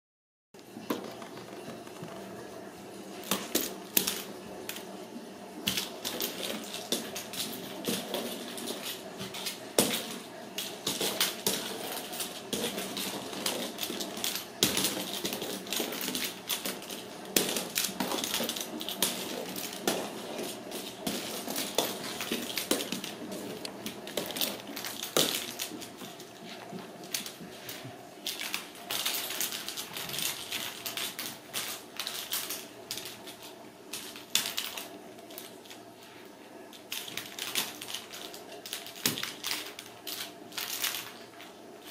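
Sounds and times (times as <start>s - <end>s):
ball rattling on hardwood floor: 0.6s - 2.4s, 3.2s - 4.9s, 5.6s - 35.8s.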